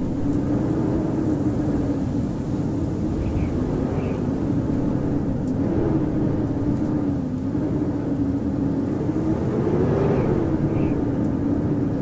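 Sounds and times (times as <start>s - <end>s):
howling blizzard wind: 0.0s - 12.0s.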